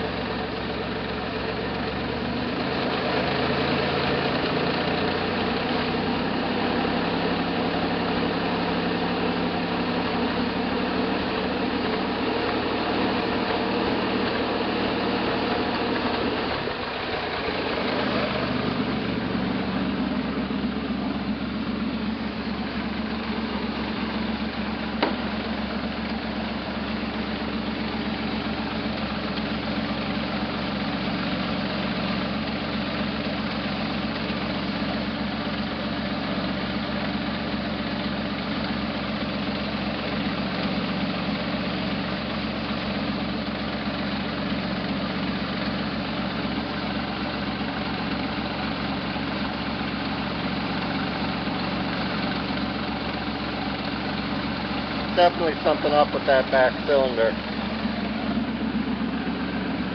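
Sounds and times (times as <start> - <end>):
engine idling with misfire: 0.0 - 59.9.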